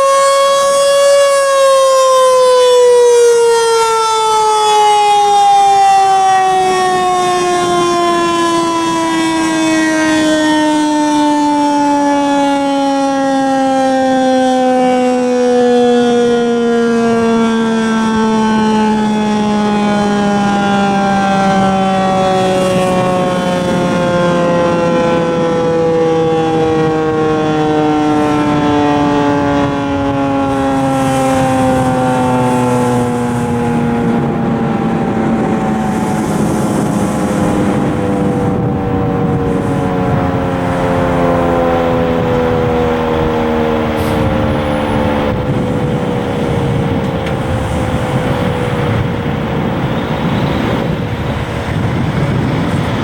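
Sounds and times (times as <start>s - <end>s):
electromechanical siren winding down: 0.0s - 53.0s.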